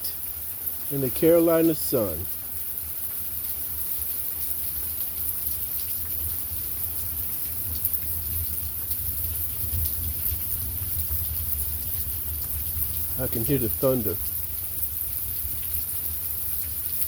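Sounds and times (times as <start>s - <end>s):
heavy rain falling: 0.0s - 3.2s, 6.0s - 17.0s.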